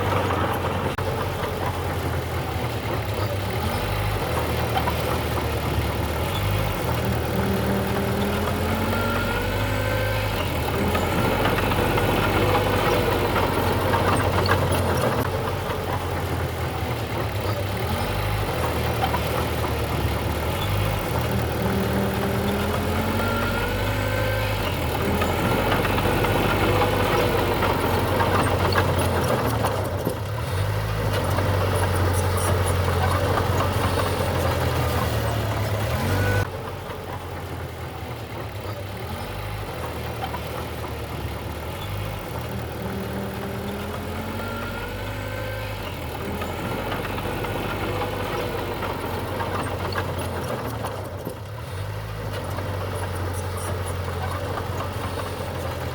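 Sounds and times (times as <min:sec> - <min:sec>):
diesel machinery engine running: 0:00.0 - 0:55.9.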